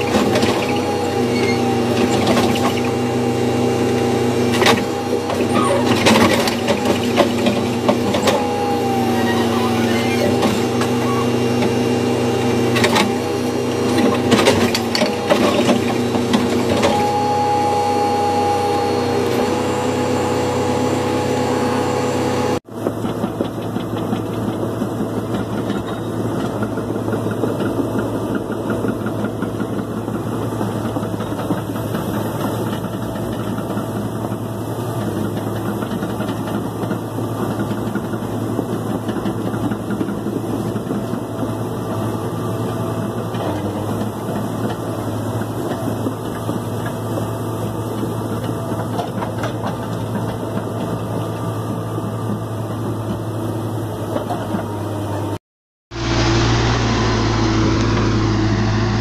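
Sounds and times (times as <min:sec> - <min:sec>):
excavator engine chattering: 0:00.0 - 0:55.4
backhoe engine humming: 0:00.0 - 0:59.0
hydraulic arm whine: 0:00.0 - 0:59.0.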